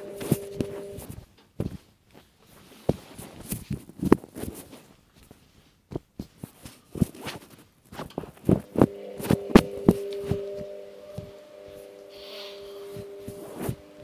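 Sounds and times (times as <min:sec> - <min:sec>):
cloth rustling: 0:00.0 - 0:14.0.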